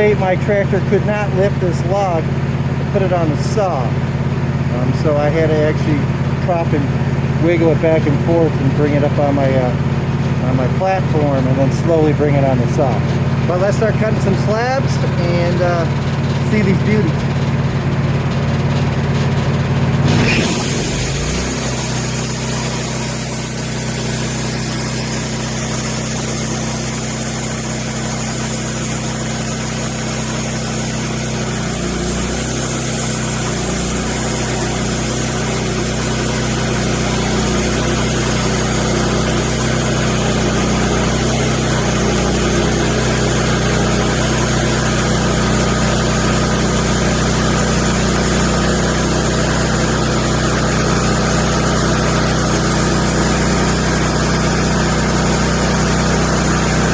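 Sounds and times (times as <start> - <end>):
bandsaw sawmill cutting log: 0.0 - 56.9.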